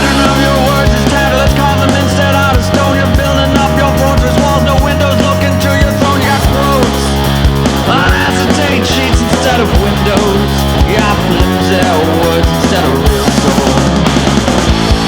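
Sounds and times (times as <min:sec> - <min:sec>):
rock guitar: 0:00.0 - 0:15.0
steady drum beat: 0:00.0 - 0:15.0.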